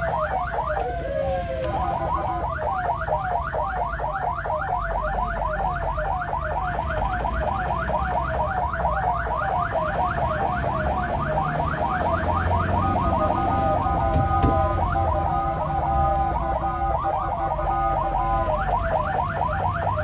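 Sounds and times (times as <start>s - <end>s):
ambulance siren yelping: 0.0s - 20.0s
engine rumble: 0.0s - 20.0s.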